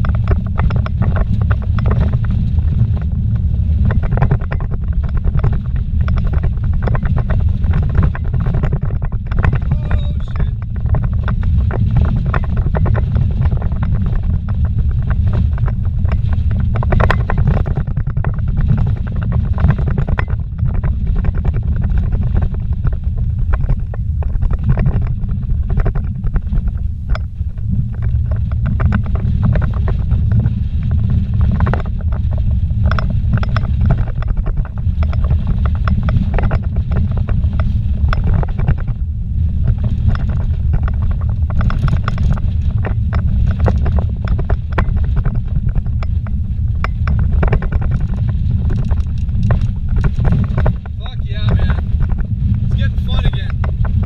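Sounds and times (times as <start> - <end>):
rattles and knocks: 0.0 - 54.0
tyres on rough dirt track: 0.0 - 54.0
vehicle engine rumble: 0.0 - 54.0.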